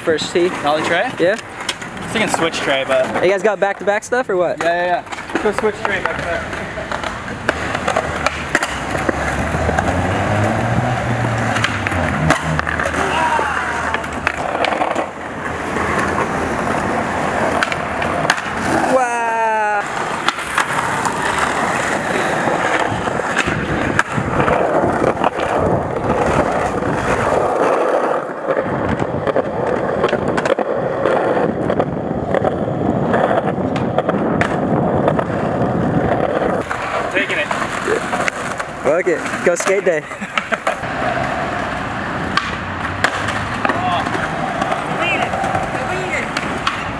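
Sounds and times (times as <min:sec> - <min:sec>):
skateboard clacks: 0:00.0 - 0:46.9
skateboard wheels rolling on concrete: 0:00.0 - 0:46.9.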